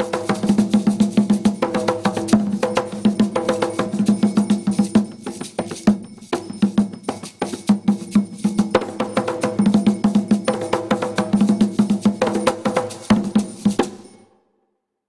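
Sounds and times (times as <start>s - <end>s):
hand drums beaten fast: 0.0s - 14.1s
wood block clicking beat: 0.0s - 14.1s.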